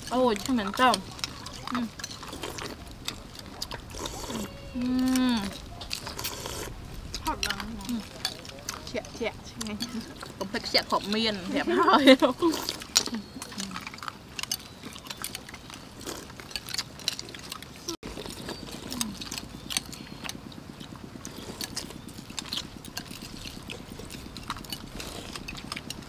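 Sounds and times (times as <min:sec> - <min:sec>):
mouth sounds of eating: 0:00.0 - 0:26.0.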